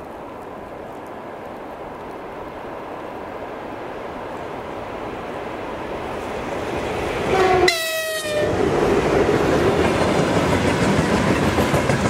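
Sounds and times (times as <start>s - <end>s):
electric locomotive hauling train: 0.0s - 12.0s.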